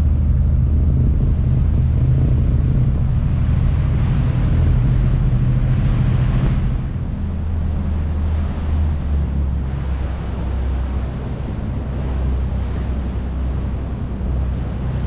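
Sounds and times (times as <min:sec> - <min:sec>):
boat engine humming: 0:00.0 - 0:15.0
water rushing along hull: 0:00.0 - 0:15.0
wind buffeting microphone: 0:00.0 - 0:15.0.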